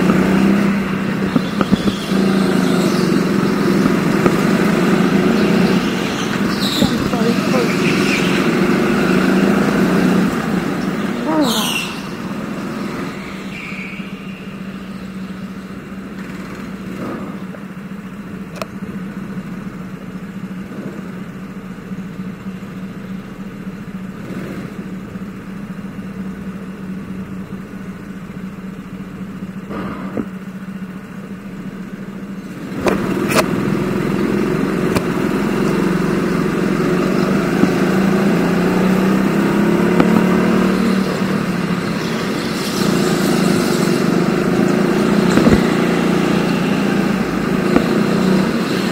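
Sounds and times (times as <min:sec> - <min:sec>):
go-kart engine revving: 0:00.0 - 0:28.2, 0:29.5 - 0:48.9.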